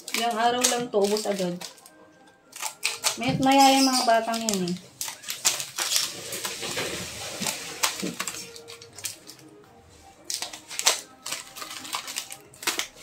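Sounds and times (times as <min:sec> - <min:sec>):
scissors snipping plastic: 0:00.0 - 0:09.5, 0:10.2 - 0:13.0
plastic packets crinkling: 0:00.0 - 0:13.0.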